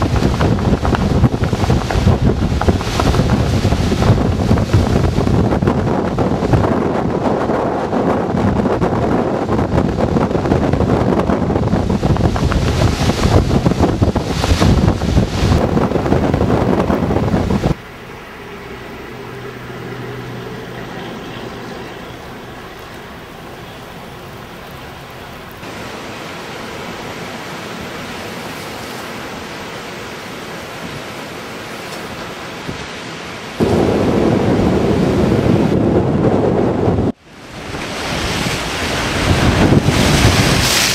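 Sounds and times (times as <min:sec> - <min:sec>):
wind buffeting microphone: 0:00.0 - 0:17.8, 0:21.4 - 0:40.9.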